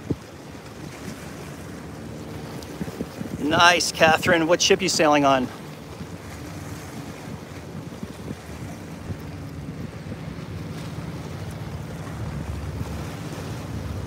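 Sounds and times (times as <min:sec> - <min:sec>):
waves splashing against rocks: 0:00.0 - 0:14.0
wind buffeting microphone: 0:00.0 - 0:14.0.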